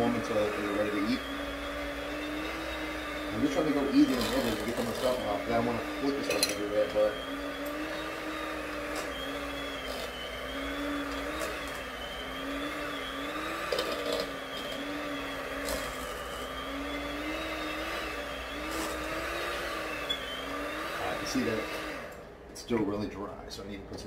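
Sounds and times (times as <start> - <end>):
electric hand mixer whine: 0.0 - 22.4.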